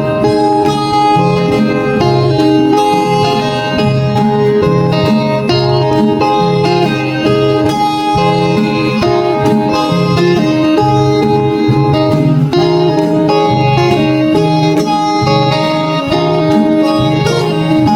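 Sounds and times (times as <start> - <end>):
plucked string instrumental music: 0.0 - 17.9.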